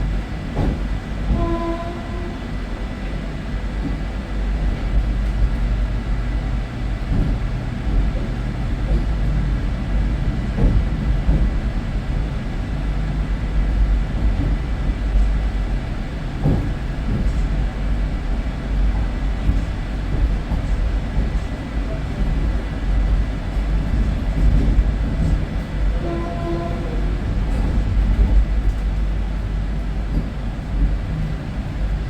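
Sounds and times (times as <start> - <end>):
train rumbling along track: 0.0 - 32.0.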